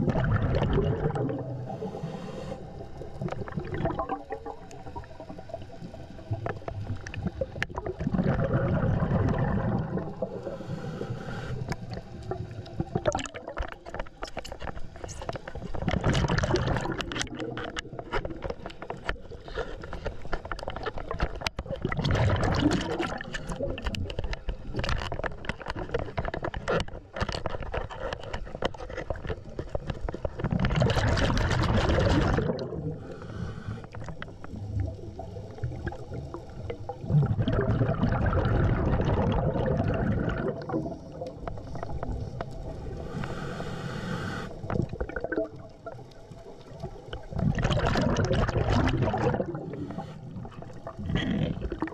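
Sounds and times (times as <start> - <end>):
diver exhaling bubbles underwater: 0.0 - 14.0, 15.0 - 19.5, 21.6 - 24.2, 30.4 - 51.9.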